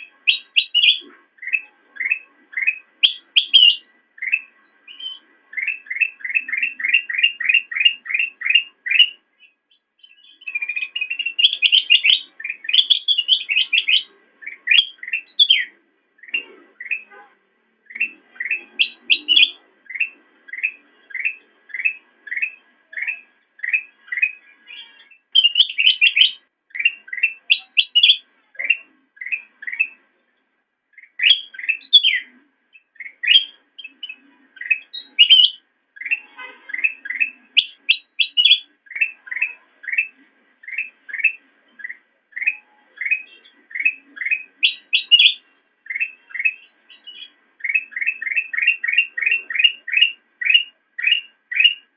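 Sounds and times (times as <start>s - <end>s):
bulbul singing: 0.0s - 51.9s.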